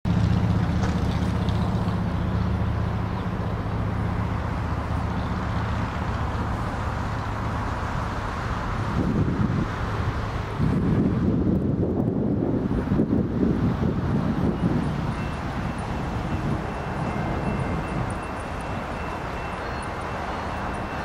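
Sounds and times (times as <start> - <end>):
vehicle engine hum: 0.1 - 21.0
wind buffeting microphone: 0.1 - 21.0.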